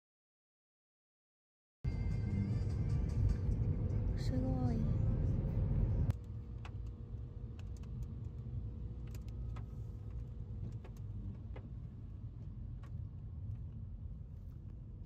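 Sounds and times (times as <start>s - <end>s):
car road and engine rumble: 1.9s - 15.0s.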